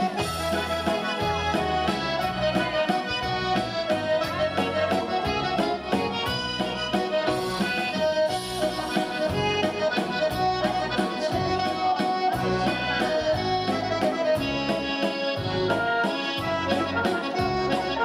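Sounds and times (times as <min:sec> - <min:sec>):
accordion waltz music: 0:00.0 - 0:18.0.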